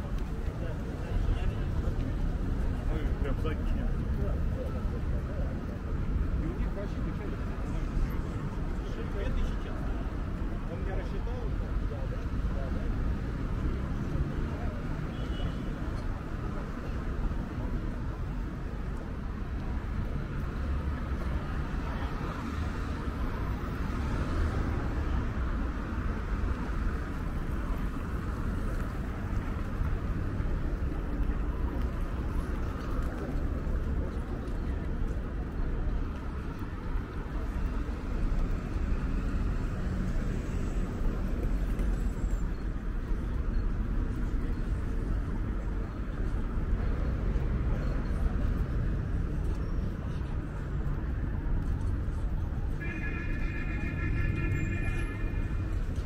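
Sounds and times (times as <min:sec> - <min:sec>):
passing cars traffic: 0:00.0 - 0:56.0.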